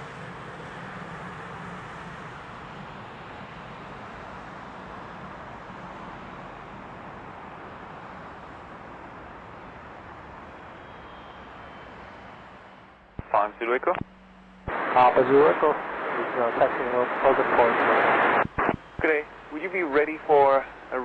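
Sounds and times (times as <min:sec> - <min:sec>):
distant jet engines rushing: 0:00.0 - 0:21.0.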